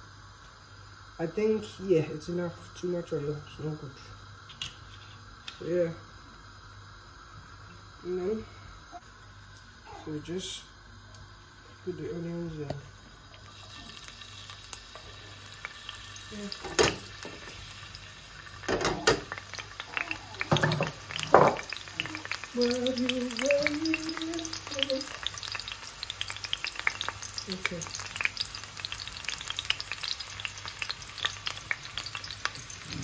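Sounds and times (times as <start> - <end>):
onions sizzling in frying pan: 0.0 - 33.0.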